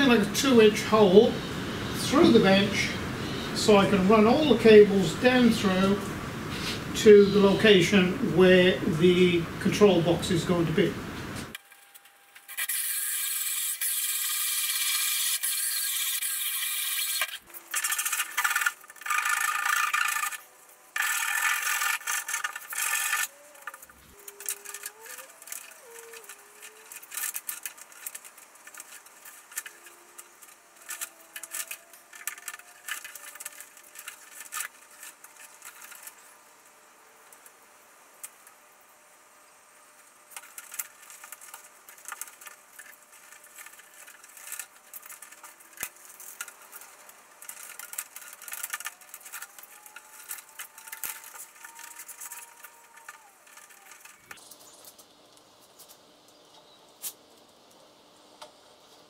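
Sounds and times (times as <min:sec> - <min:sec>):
cables rustling and clicking: 0:07.0 - 0:59.0.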